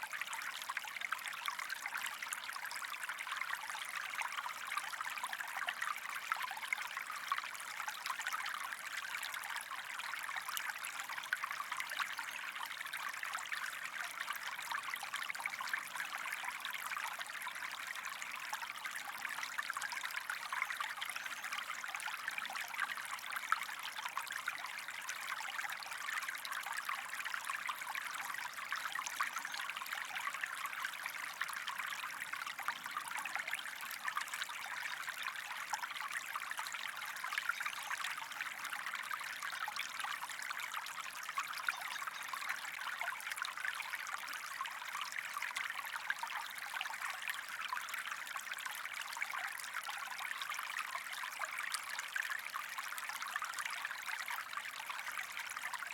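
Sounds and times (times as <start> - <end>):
stream water trickling: 0.0 - 55.9.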